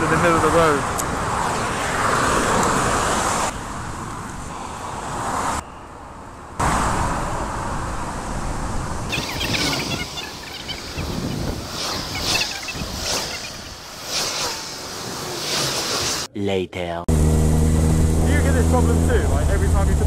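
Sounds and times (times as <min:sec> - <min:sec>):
road traffic hiss: 0:00.0 - 0:16.3.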